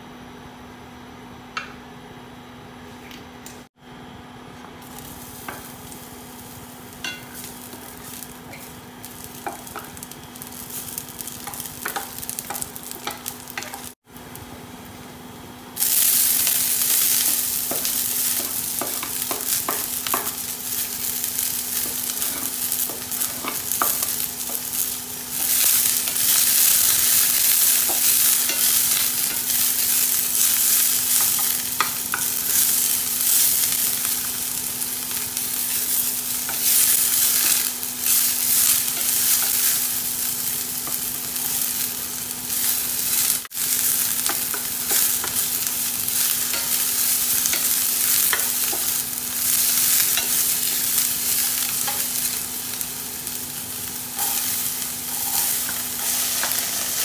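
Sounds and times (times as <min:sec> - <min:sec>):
onion and garlic sizzling: 0:04.5 - 0:57.0
oil frying with small pops: 0:04.8 - 0:15.1, 0:15.8 - 0:57.0.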